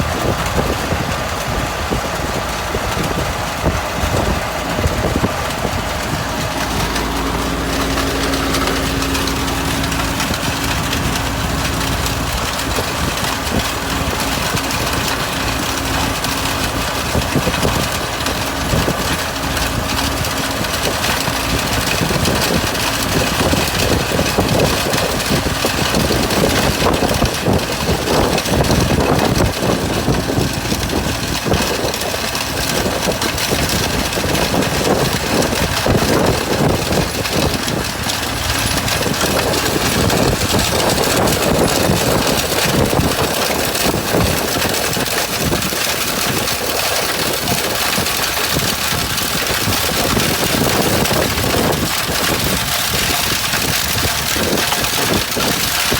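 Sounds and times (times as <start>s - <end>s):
stone-crushing machine rattling: 0.0s - 55.9s.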